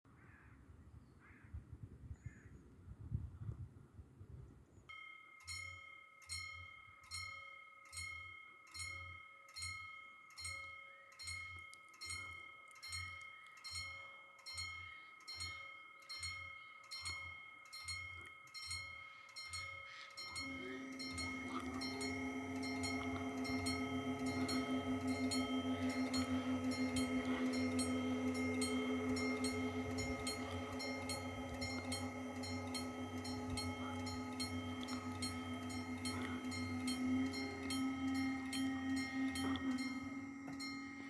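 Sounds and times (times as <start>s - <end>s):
level crossing bell: 4.9s - 41.0s
low steady tone: 4.9s - 41.0s
steady ringing tone: 4.9s - 41.0s.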